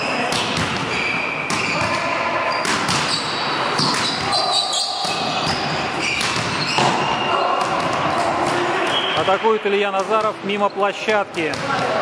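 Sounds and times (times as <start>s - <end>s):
players' voices: 0.0s - 12.0s
volleyball hits: 0.2s - 10.4s, 11.2s - 12.0s.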